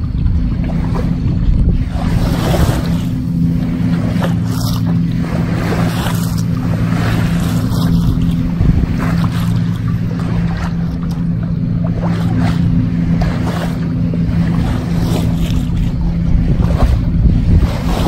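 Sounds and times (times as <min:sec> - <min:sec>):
low drone: 0:00.0 - 0:18.0
water splashing along hull: 0:00.0 - 0:18.0
wind buffeting microphone: 0:00.0 - 0:18.0.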